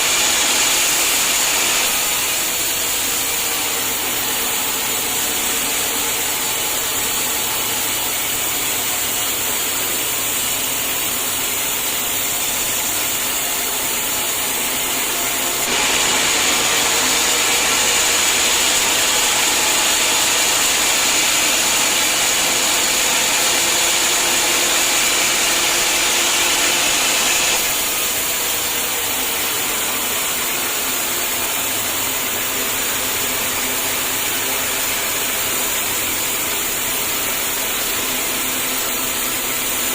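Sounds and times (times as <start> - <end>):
sawmill blade cutting log: 0.0 - 39.9.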